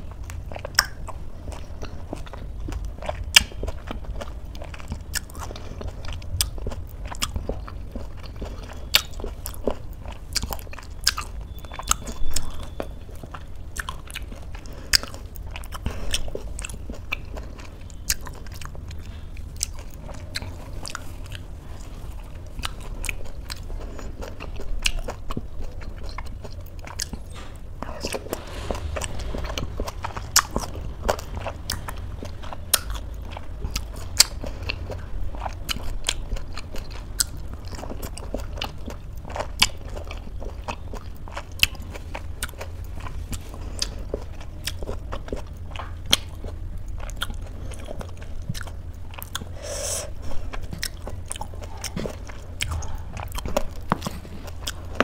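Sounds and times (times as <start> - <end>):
close chewing with mouth clicks: 0.0 - 55.0.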